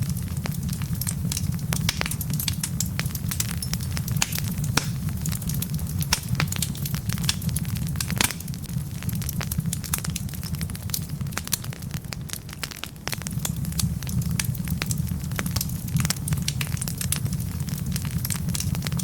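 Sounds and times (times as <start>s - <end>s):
fire low rumble: 0.0s - 19.0s
logs crackling and popping: 0.0s - 19.0s.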